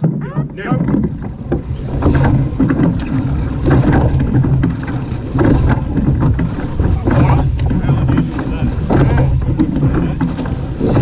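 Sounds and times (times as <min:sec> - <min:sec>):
oar strokes: 0:00.0 - 0:11.0
water churning against hull: 0:00.0 - 0:11.0
wind rumble on microphone: 0:00.0 - 0:11.0.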